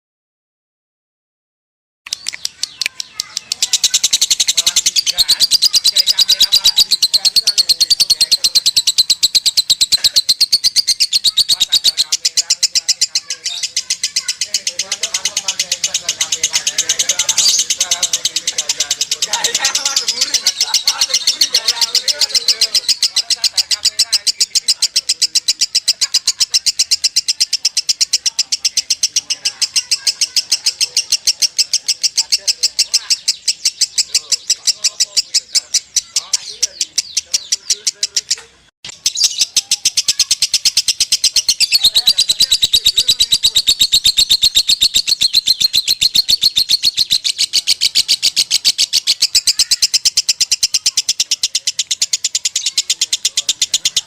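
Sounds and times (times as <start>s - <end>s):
bird singing rapid chirps: 2.1s - 54.0s
lovebird chattering trill: 2.1s - 54.0s.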